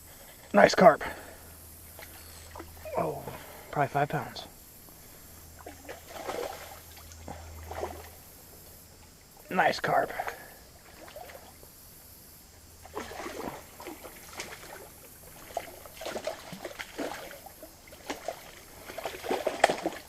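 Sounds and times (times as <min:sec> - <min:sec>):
water splashing and sloshing: 0:01.1 - 0:09.5, 0:10.1 - 0:20.0.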